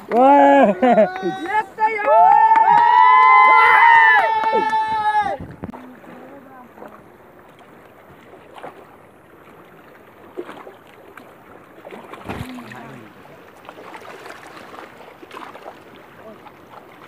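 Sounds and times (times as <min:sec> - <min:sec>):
flowing river rushing: 0:00.0 - 0:17.0.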